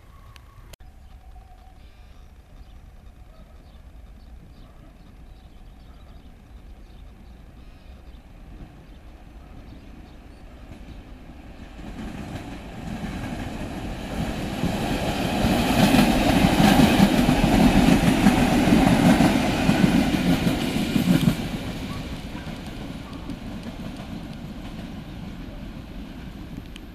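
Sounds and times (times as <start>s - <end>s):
train passing at speed: 2.3s - 26.9s
rapid clatter of train cars: 2.4s - 26.9s.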